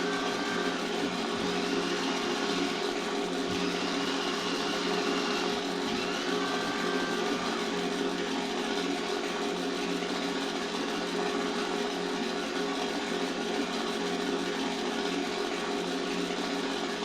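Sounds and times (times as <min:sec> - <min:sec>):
faint high motor whines: 0:00.0 - 0:17.0
steady mechanical drone: 0:00.0 - 0:17.0.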